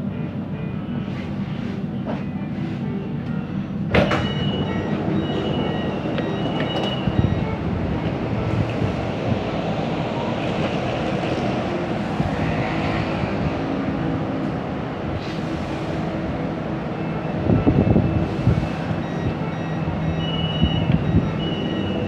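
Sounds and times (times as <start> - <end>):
metro carriage rumble and hum: 0.0 - 22.0.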